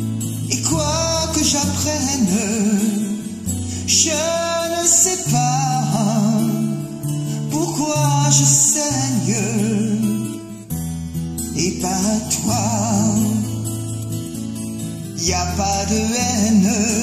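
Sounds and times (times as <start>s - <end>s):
slow instrumental backing: 0.0s - 17.0s.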